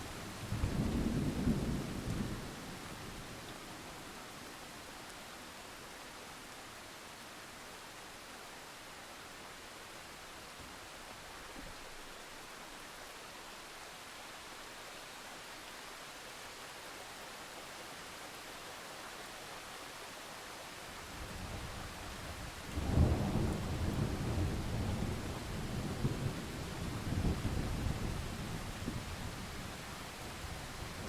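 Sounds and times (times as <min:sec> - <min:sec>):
steady rain hissing: 0:00.0 - 0:31.0.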